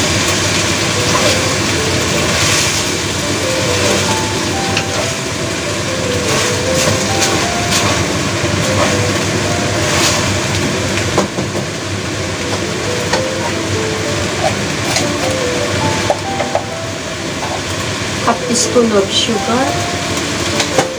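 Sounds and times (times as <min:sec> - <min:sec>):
food sizzling in a wok: 0:00.0 - 0:20.9.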